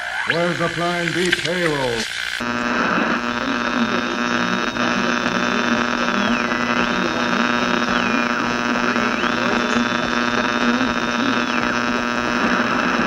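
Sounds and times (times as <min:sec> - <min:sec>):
radio hum and static: 0:00.0 - 0:13.0.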